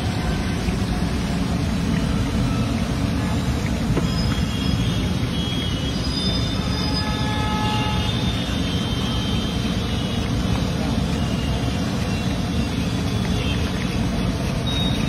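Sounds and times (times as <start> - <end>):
oil deep-frying: 0.0 - 15.0.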